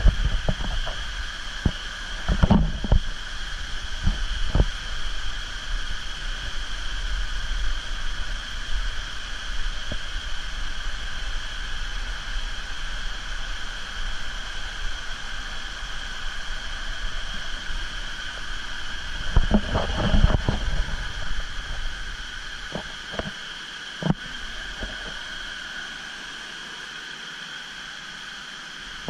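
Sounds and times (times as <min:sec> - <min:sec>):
wind rumble on microphone: 0:00.0 - 0:23.4
water rushing over cascades: 0:00.0 - 0:29.0.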